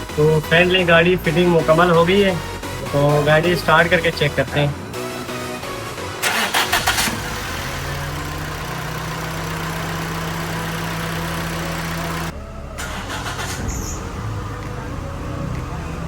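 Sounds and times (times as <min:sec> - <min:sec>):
starter cranking engine: 0:00.0 - 0:14.2
car engine idling: 0:00.0 - 0:16.0.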